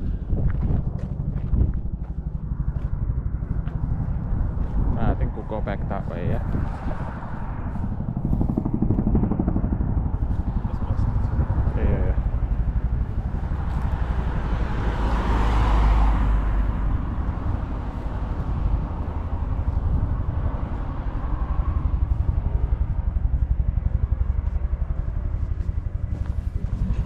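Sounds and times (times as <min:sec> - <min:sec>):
helicopter rotor chopping: 0:00.0 - 0:27.0.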